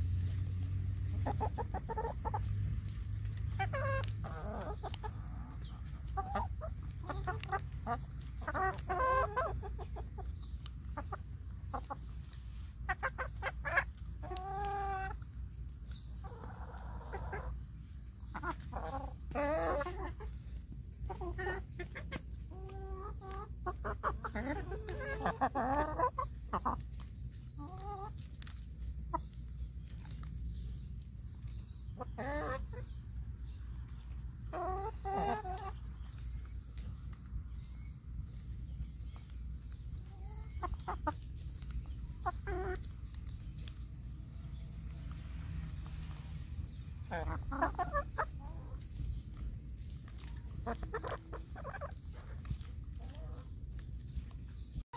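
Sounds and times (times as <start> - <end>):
chickens clucking: 0.0 - 54.8.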